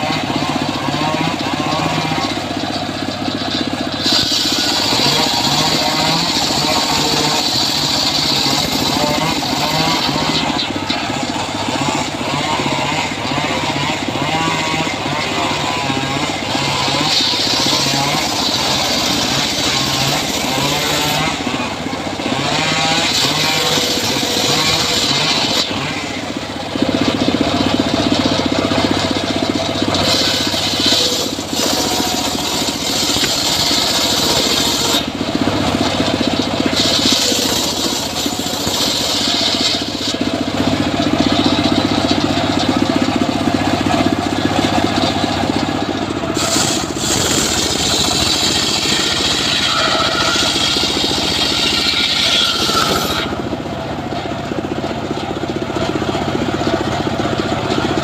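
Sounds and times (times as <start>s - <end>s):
saw blade rasping through wood: 0.0s - 54.8s
engine hum: 0.0s - 58.0s.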